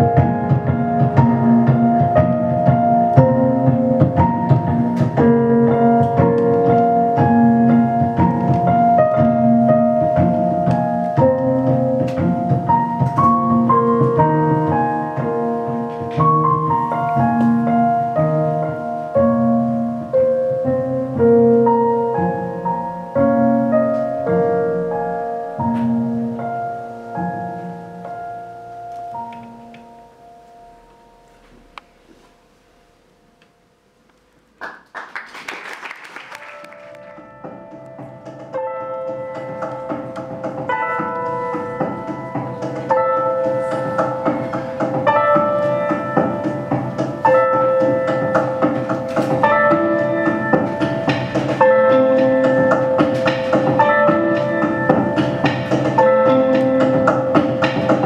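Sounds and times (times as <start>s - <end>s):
piano with electronic tones: 0.0s - 35.0s, 35.8s - 58.0s.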